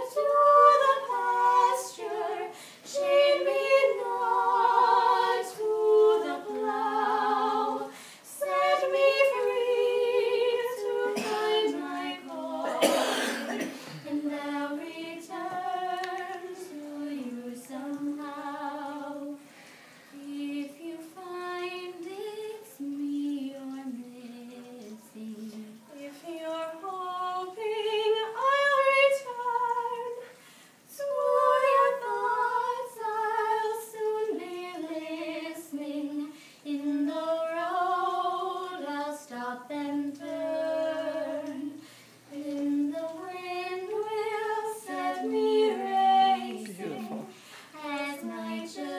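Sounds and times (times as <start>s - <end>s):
women singing unaccompanied: 0.0s - 19.5s, 20.1s - 48.9s.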